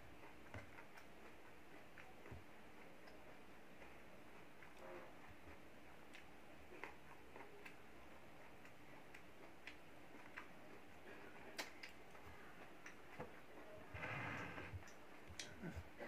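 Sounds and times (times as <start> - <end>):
mouth chewing smacks: 0.1 - 13.7, 14.8 - 16.0
fingers picking at food on plate: 0.1 - 13.8.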